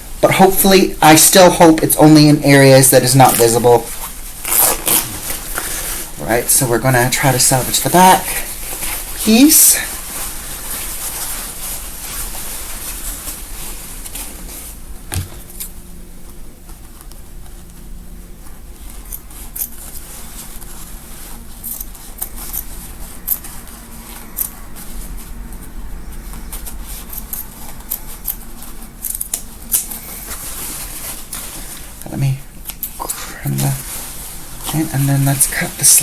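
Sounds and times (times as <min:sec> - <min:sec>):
fabric rustling: 0:00.0 - 0:36.0.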